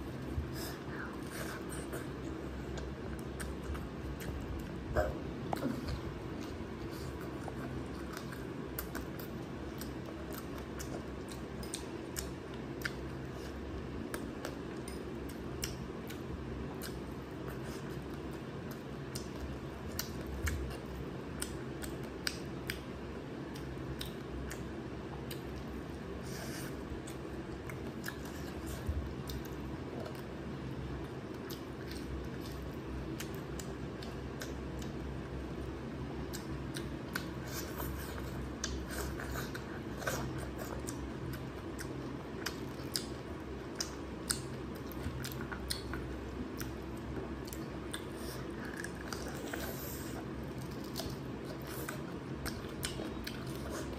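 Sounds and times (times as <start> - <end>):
low background hum: 0.0 - 53.9
person chewing food: 0.0 - 53.9.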